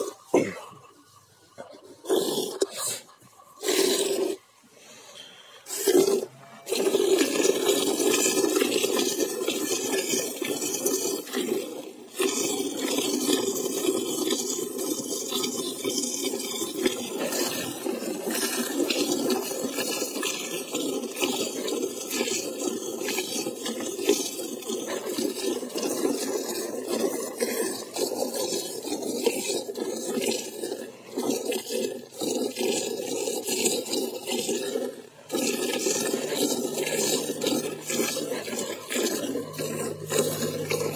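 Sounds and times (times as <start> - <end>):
milk squirting into a pail: 1.7 - 40.9.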